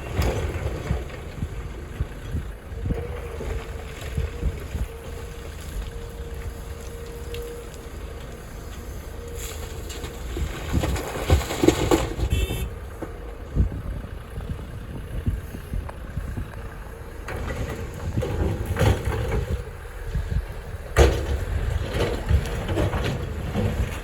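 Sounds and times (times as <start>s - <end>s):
wind buffeting microphone: 0.0s - 11.5s, 12.3s - 24.0s
low engine rumble: 0.0s - 24.0s.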